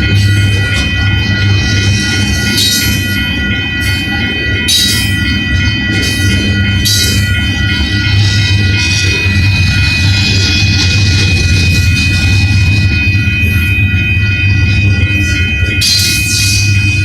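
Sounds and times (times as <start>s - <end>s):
railroad crossing bell ringing: 0.0s - 17.0s
train cars rumbling past: 0.0s - 17.0s.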